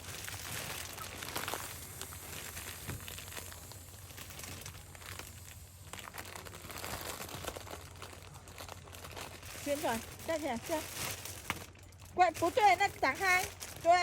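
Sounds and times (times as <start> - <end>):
plastic mattress crinkling: 0.0 - 14.0.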